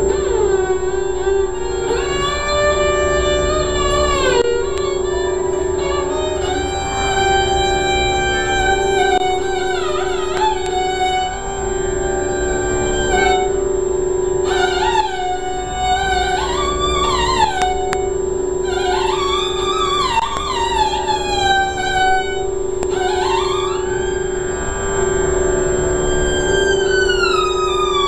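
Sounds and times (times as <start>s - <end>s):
steady drone note: 0.0s - 28.0s
violin long bowed notes: 0.0s - 28.0s.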